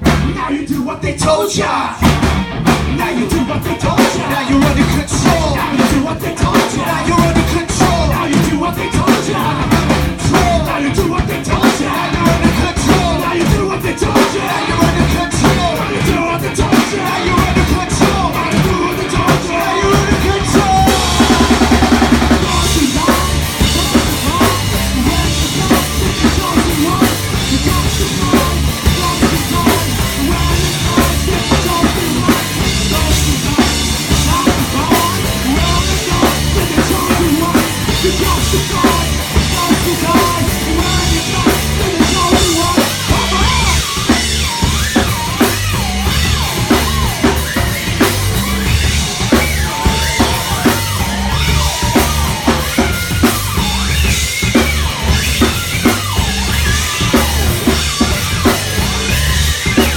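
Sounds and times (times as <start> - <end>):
bass guitar: 0.0 - 59.9
drum kit: 0.0 - 59.9
distorted electric guitar: 1.3 - 59.9.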